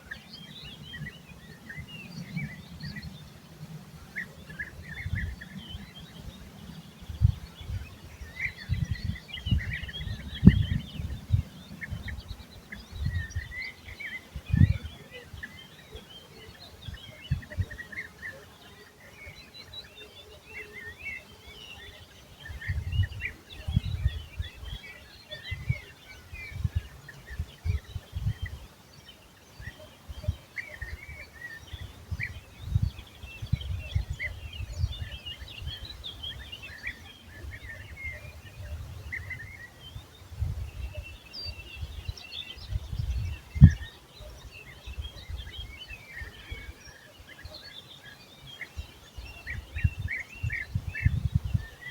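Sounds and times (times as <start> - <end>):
birds chirping: 0.0 - 51.9
wind rumbling on microphone: 0.0 - 51.9.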